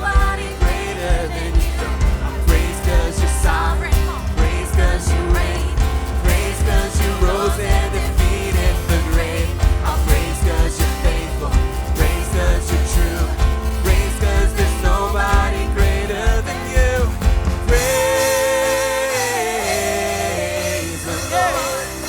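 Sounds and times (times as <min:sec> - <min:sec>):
drums beating: 0:00.0 - 0:22.0
person singing: 0:00.0 - 0:22.0
worship band playing: 0:00.0 - 0:22.0.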